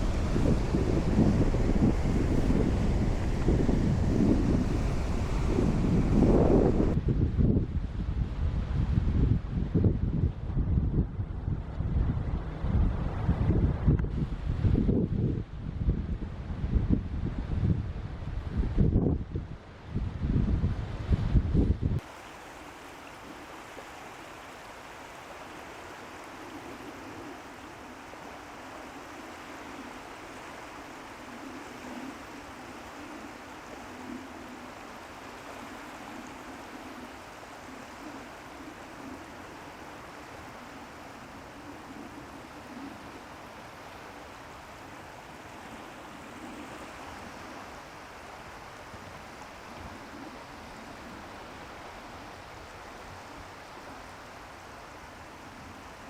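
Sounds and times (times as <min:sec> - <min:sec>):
steady rushing outdoor noise: 0:00.0 - 0:56.0.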